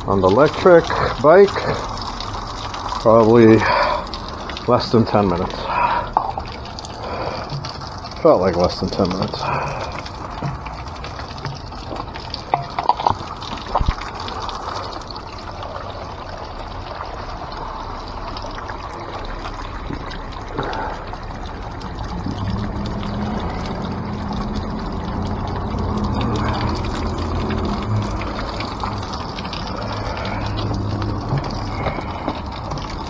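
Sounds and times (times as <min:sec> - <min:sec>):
water trickling into plastic bottle: 0:00.0 - 0:33.0.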